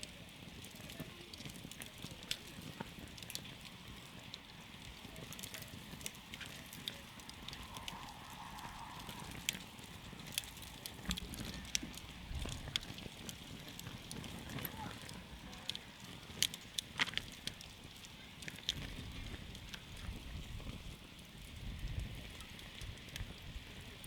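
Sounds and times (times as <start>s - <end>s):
campfire crackling and popping: 0.0s - 24.0s
soft fire hiss: 0.0s - 24.0s.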